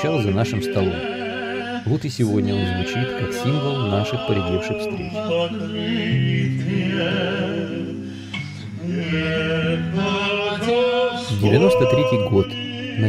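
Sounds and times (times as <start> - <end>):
men singing: 0.0 - 8.1, 8.7 - 13.0
classical guitar: 2.3 - 13.0.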